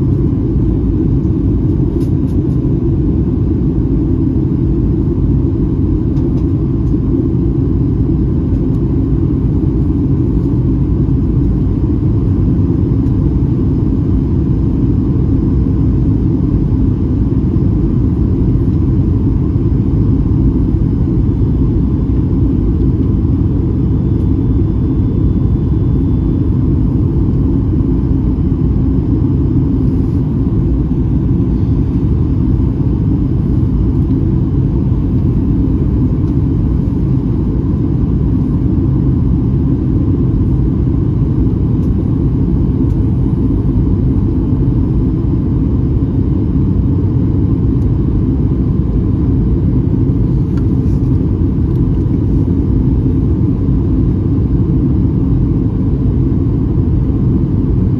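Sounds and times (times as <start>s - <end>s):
airplane cabin engine rumble: 0.0s - 57.9s.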